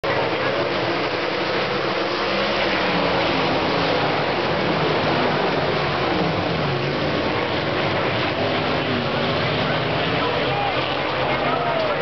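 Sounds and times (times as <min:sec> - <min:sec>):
racing car engines passing: 0:00.0 - 0:12.0.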